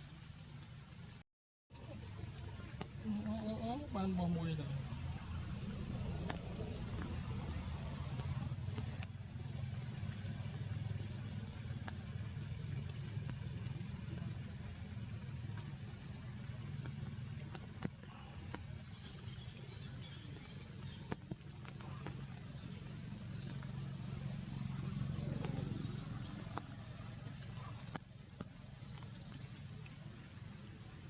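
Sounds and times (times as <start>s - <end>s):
rain pattering: 0.0s - 1.2s, 1.8s - 31.0s.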